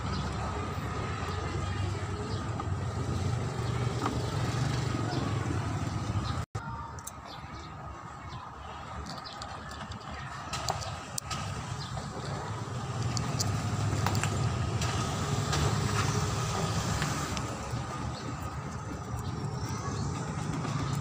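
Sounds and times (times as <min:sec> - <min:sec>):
passing vehicle rumble: 0:00.0 - 0:06.5, 0:10.5 - 0:21.0.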